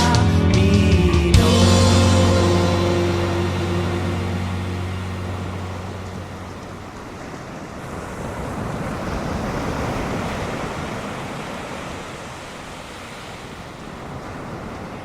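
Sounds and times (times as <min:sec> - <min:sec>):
ocean surf breaking: 0:01.4 - 0:15.0
wind: 0:01.4 - 0:15.0.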